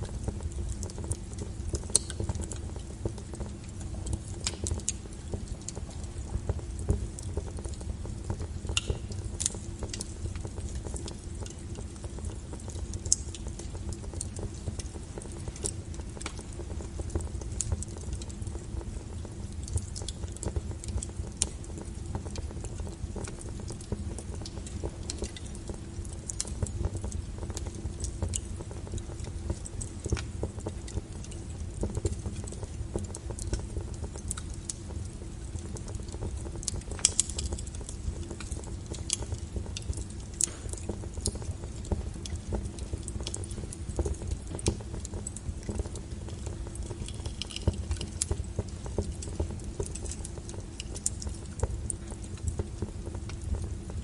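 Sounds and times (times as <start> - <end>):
firewood crackling and popping: 0.0 - 54.0
low rumble of flames: 0.0 - 54.0.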